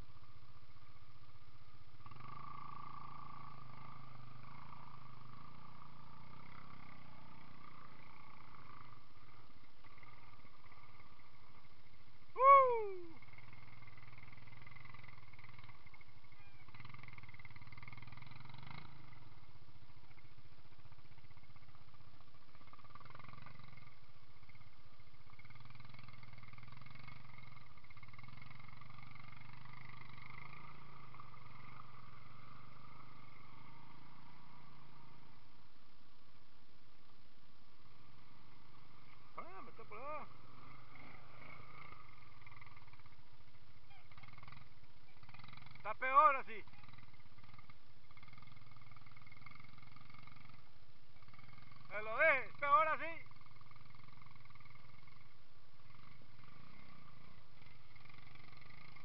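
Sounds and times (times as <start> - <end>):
atv engines droning: 0.0 - 59.0.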